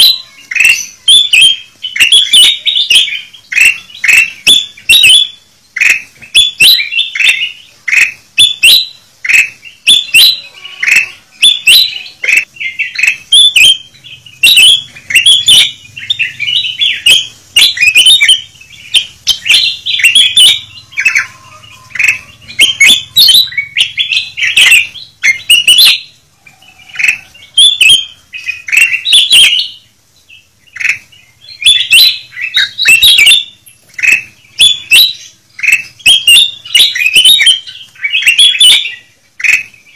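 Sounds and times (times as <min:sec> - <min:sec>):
bulbuls chirping calls: 0:00.0 - 0:39.9.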